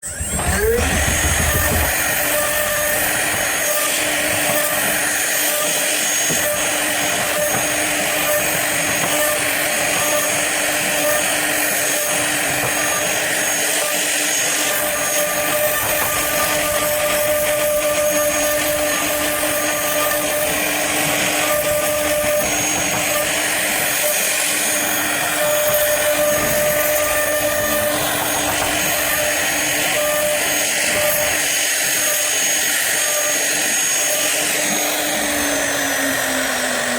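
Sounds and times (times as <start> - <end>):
router spindle whine cutting wood: 0.0 - 36.9.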